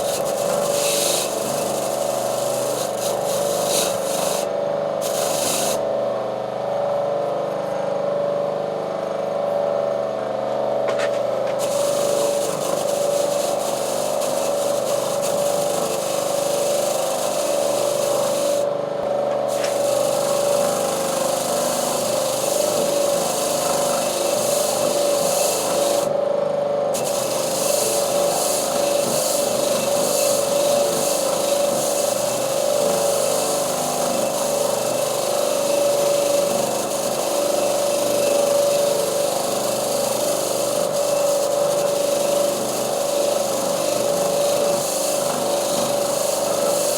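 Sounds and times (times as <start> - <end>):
power tool whining: 0.0 - 7.8, 10.7 - 46.9.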